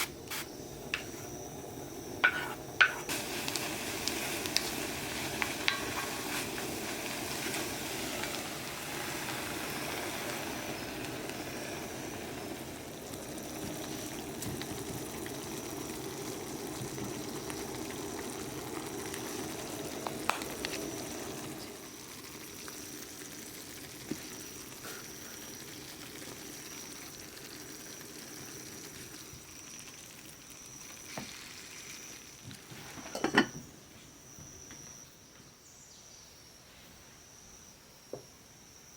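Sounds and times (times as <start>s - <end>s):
food sizzling in a pan: 0.0s - 33.7s.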